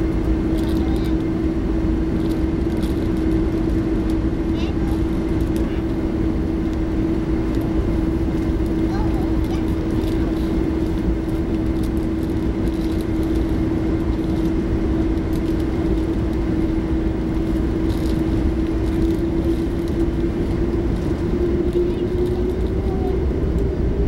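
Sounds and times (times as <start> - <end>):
aircraft cabin rumble: 0.0 - 24.0.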